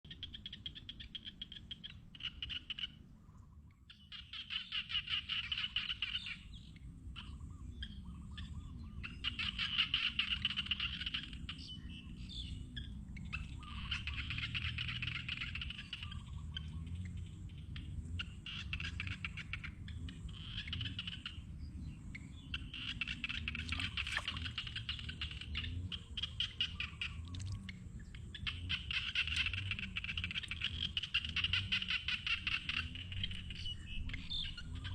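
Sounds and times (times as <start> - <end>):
frogs trilling: 0.1 - 34.9
lower wavering frog calls: 0.1 - 34.9.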